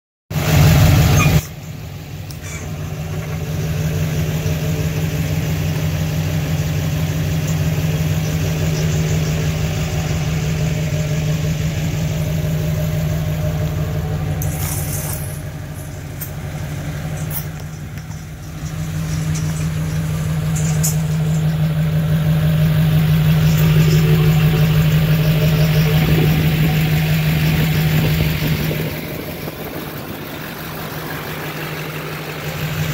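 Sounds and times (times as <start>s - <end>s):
truck engine idling: 0.3s - 32.9s.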